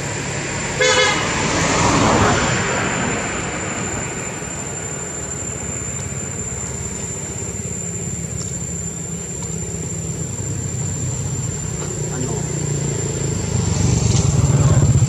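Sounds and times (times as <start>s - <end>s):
high-pitched whine: 0.0s - 15.0s
motor engine humming: 1.3s - 15.0s.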